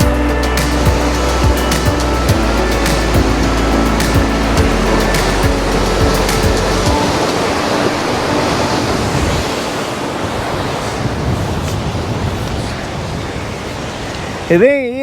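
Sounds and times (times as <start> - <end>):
sea surf washing in: 0.0 - 14.8.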